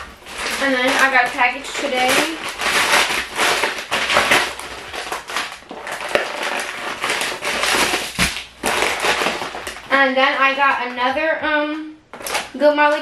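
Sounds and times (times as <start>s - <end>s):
paper package crinkling and tearing: 0.0s - 10.8s, 12.1s - 12.6s.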